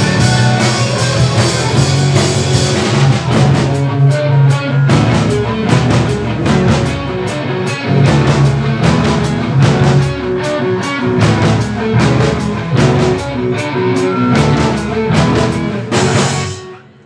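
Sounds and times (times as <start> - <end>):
bass: 0.0 - 17.0
drum kit rock beat: 0.0 - 17.0
electric guitar: 0.0 - 17.0.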